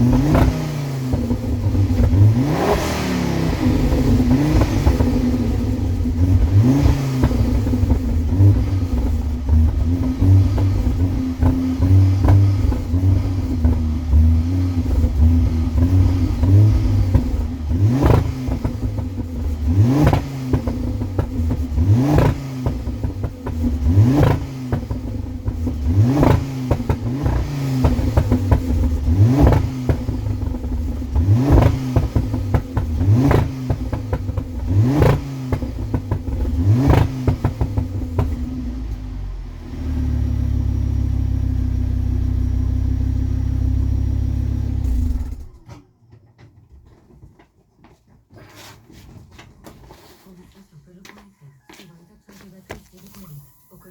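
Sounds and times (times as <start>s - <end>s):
car engine revving: 0.0s - 45.6s
exhaust crackles: 0.0s - 45.7s.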